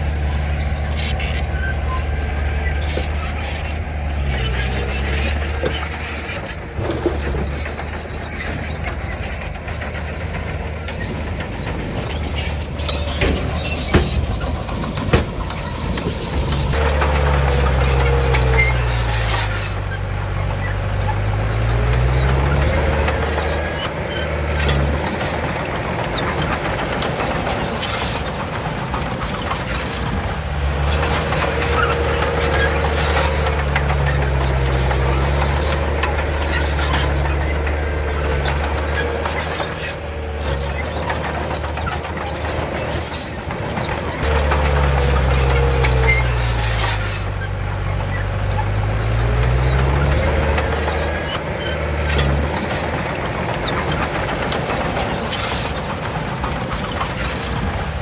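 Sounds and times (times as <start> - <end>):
bulldozer diesel engine: 0.0 - 58.0
steel tracks squealing and clattering: 0.0 - 58.0.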